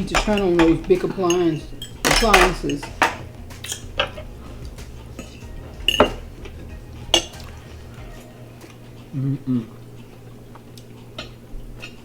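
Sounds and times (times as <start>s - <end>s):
utensils clinking against plate: 0.0s - 12.0s.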